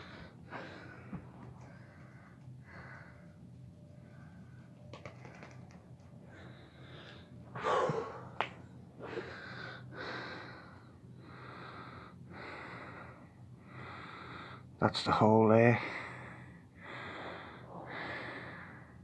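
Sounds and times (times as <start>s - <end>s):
person breathing heavily: 0.0s - 4.7s, 6.2s - 14.7s, 15.8s - 19.0s.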